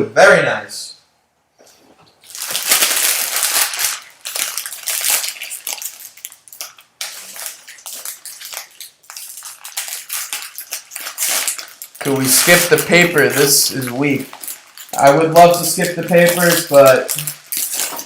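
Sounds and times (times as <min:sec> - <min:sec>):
foil wrapper crinkling and tearing: 0:02.2 - 0:18.0.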